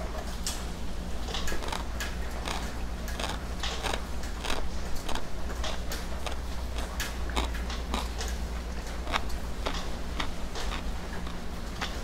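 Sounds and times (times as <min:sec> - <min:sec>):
person chewing food: 0:01.3 - 0:12.0.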